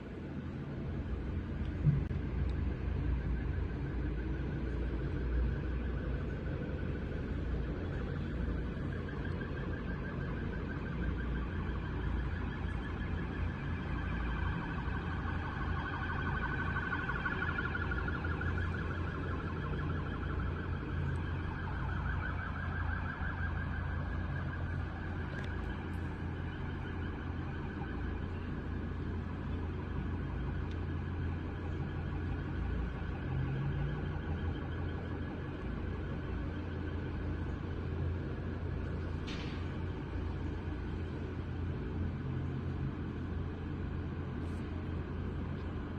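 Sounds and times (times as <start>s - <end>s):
trilling siren-like tone: 2.7s - 43.9s.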